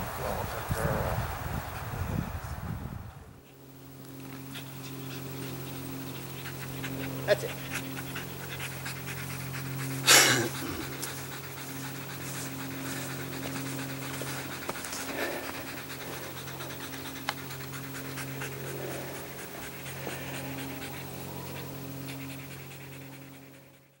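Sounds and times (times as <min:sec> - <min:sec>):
steady low hum: 0:00.0 - 0:24.0
dog panting rapidly: 0:04.0 - 0:24.0.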